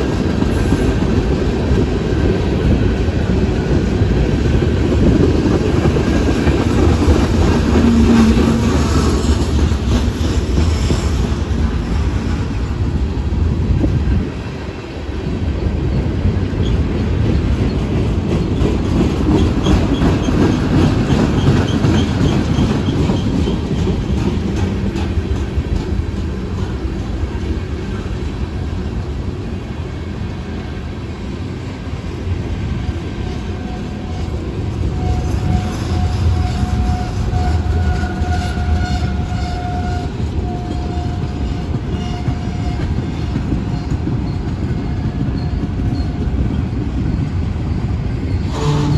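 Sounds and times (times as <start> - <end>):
wheels clacking over rail joints: 0.0 - 30.6, 31.7 - 48.9
freight train rumbling past: 0.0 - 48.9.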